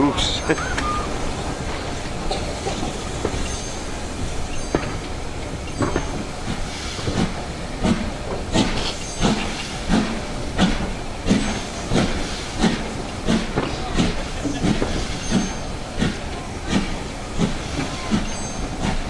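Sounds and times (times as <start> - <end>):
steam locomotive exhaust beats: 0.0 - 19.0
steam train hiss and rumble: 0.0 - 19.0.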